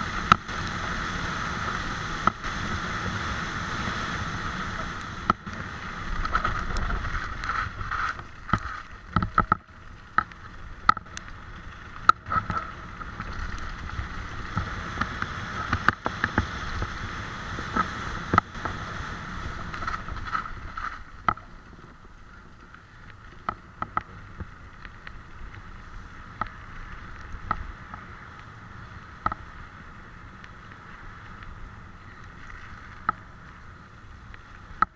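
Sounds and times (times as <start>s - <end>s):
bike tyres rolling over gravel: 0.0s - 34.9s.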